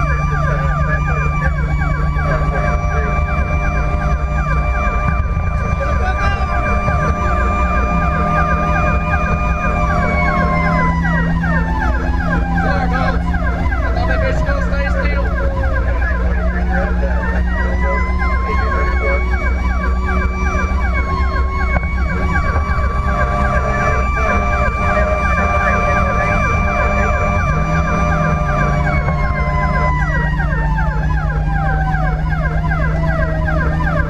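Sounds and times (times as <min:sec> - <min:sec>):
engine rumble: 0:00.0 - 0:34.0
siren tone sliding in pitch: 0:00.0 - 0:34.0
siren yelp: 0:00.0 - 0:34.0.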